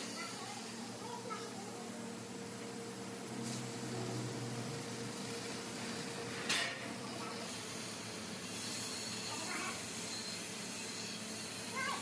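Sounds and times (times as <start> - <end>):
cutting torch hissing: 0.0 - 12.0.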